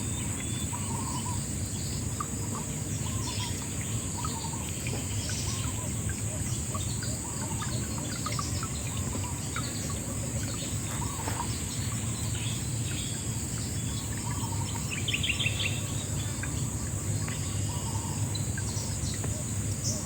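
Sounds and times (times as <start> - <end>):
birds chirping: 0.0 - 20.0
flowing water: 0.0 - 20.0.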